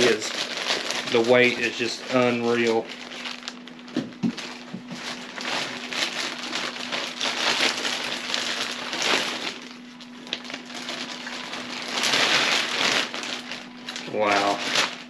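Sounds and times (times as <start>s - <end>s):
plastic packaging rustling: 0.0s - 15.0s.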